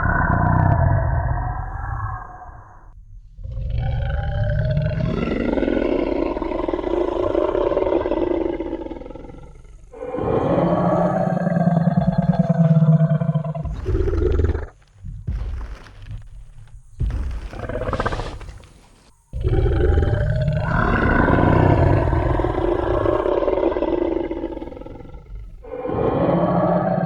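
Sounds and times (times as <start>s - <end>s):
loud dinosaur roar: 0.0s - 14.8s, 19.3s - 27.0s
dinosaur growls: 0.0s - 16.2s, 17.0s - 27.0s.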